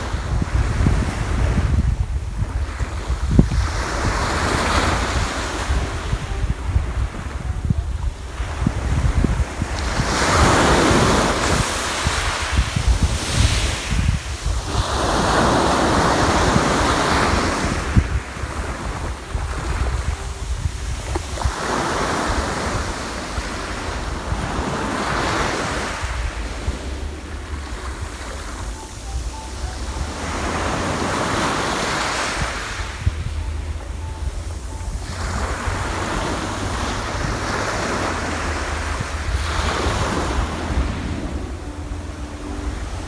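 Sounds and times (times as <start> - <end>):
sea waves breaking on shore: 0.0 - 43.0
wind buffeting microphone: 0.0 - 43.0.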